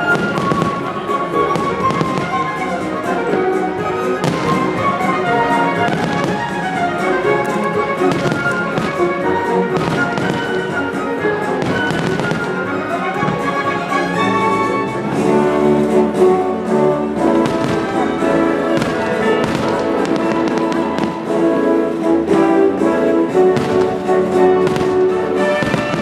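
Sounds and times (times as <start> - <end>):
fireworks bursting and crackling: 0.0 - 14.4, 17.2 - 26.0
orchestral music: 0.0 - 26.0.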